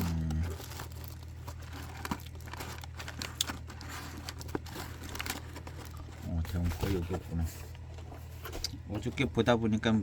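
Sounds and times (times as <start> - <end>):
packets rustling and crinkling: 0.0 - 9.4.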